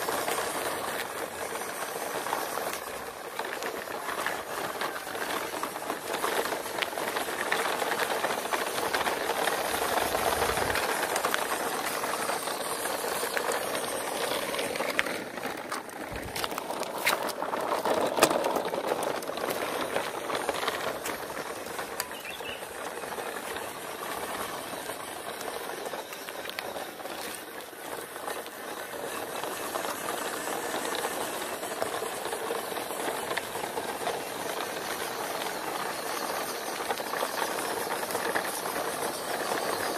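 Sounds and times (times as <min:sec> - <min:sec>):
toy truck wheels rattling on concrete: 0:00.0 - 0:39.9.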